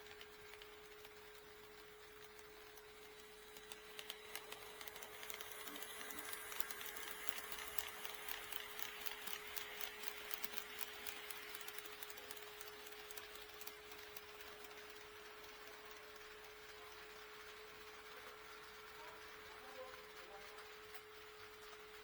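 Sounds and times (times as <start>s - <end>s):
model train running hiss: 0.0s - 22.0s
model train wheels clicking: 0.0s - 22.0s.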